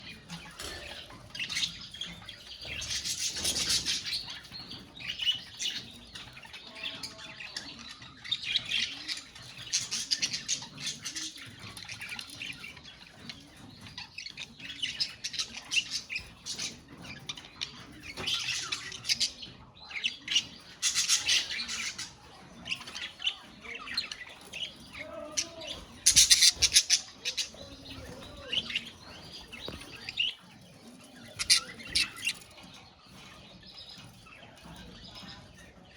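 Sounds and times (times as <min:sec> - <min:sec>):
budgerigars chirping and chattering: 0:00.0 - 0:35.9.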